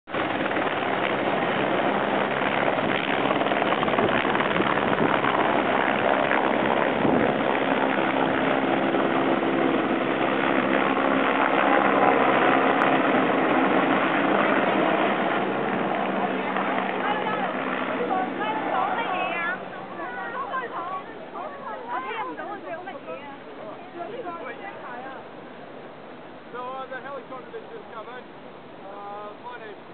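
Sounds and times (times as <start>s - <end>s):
helicopter taking off: 0.1s - 24.8s.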